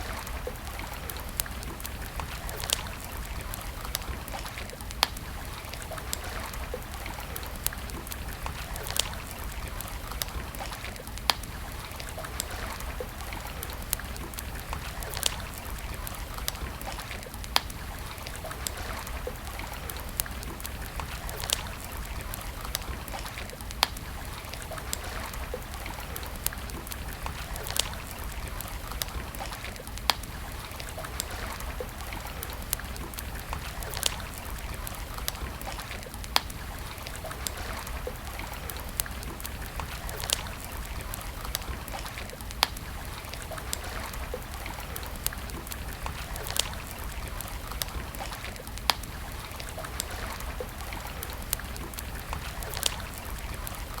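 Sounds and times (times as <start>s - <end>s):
campfire crackling and popping: 0.0s - 54.0s
river water flowing: 0.0s - 54.0s.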